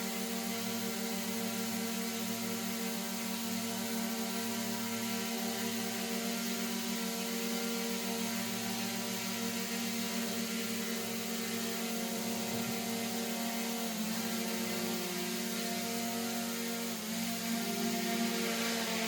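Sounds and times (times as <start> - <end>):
drone propellers humming: 0.2 - 19.0.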